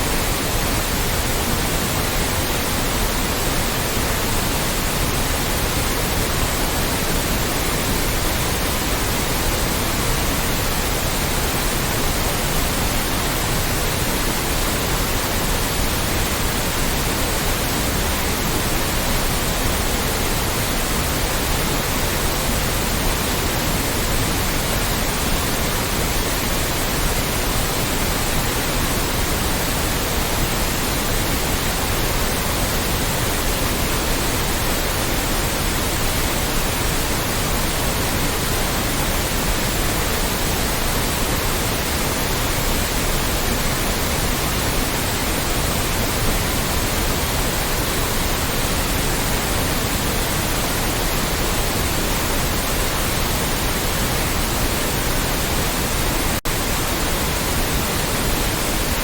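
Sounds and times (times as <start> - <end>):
loud white noise: 0.0 - 59.0.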